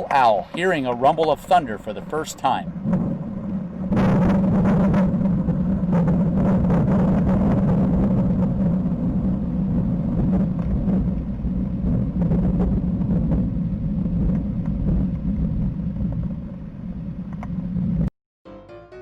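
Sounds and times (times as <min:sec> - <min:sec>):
rolling thunder rumble: 0:00.0 - 0:18.1.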